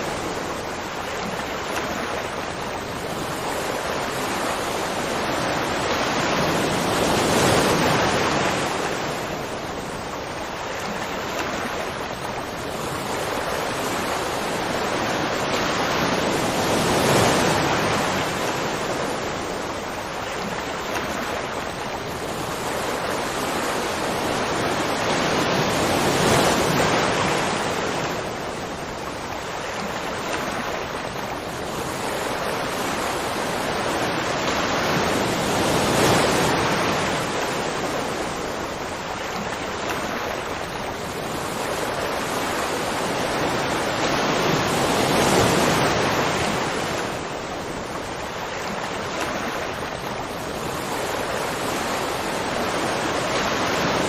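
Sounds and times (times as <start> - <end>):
rushing water roar: 0.0 - 54.0.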